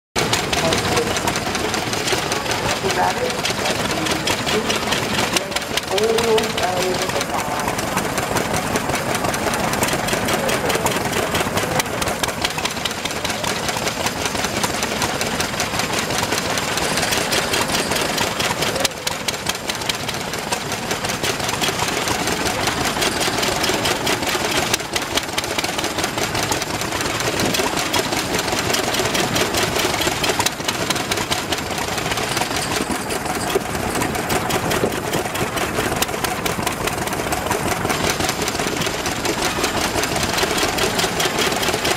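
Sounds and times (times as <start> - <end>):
stationary engines clattering: 0.2 - 41.9.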